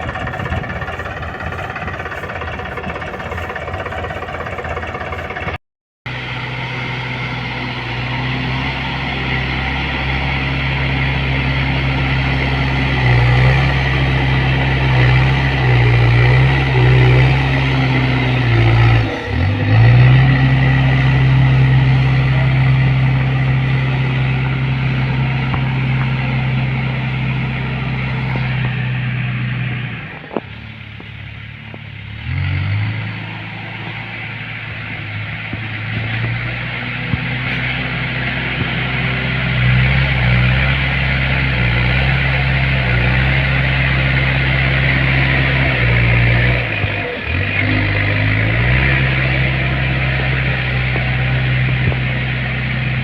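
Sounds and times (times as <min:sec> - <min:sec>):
diesel engine under hydraulic load: 0:00.0 - 0:53.0.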